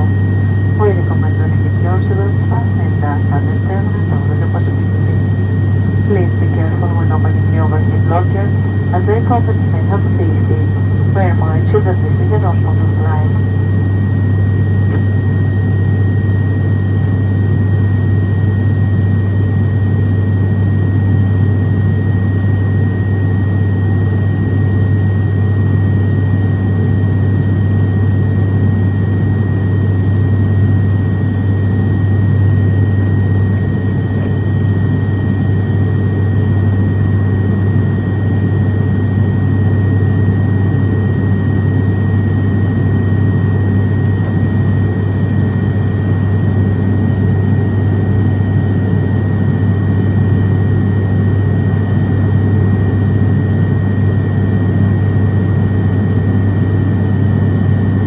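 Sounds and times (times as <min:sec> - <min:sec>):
low propeller drone: 0:00.0 - 0:58.0.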